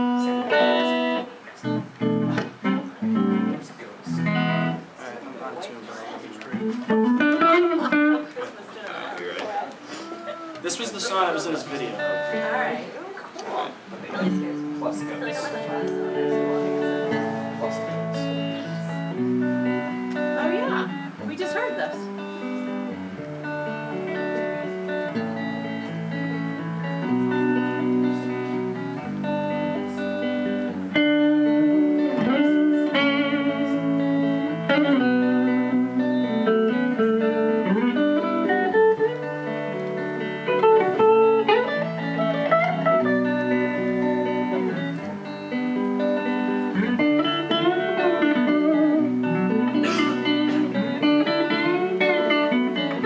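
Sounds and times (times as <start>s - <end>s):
electric guitar lead melody: 0.0s - 5.0s, 5.9s - 53.0s
electric guitar chord rhythm: 0.0s - 5.2s, 6.4s - 53.0s.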